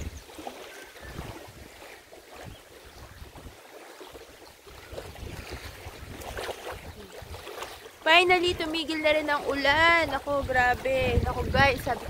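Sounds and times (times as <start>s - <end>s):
small waves lapping at shore: 0.0s - 12.0s
wind buffeting microphone: 0.0s - 12.0s.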